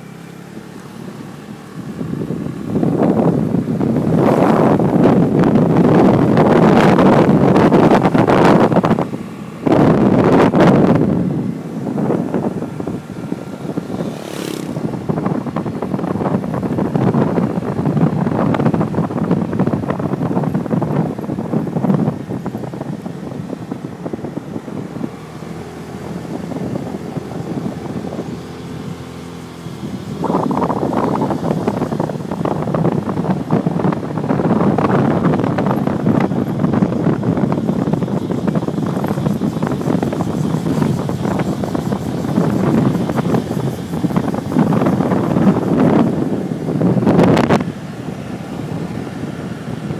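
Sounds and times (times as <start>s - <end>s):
motorbike running: 0.0s - 49.9s
wind buffeting microphone: 0.0s - 49.9s.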